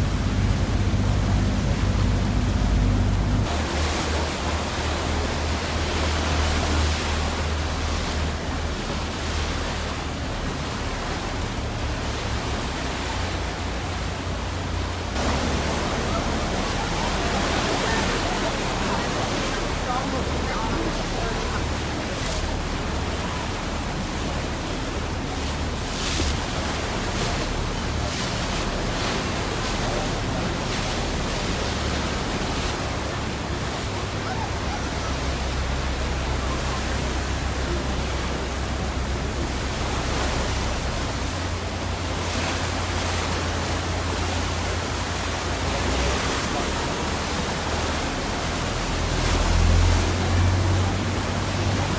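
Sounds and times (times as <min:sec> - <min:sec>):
churning sea water: 0:00.0 - 0:51.9
low rumble: 0:00.0 - 0:51.9.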